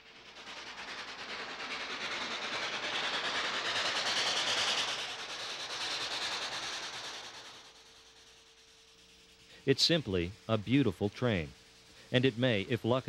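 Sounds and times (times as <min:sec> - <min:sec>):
steam locomotive passing: 0:00.0 - 0:13.0.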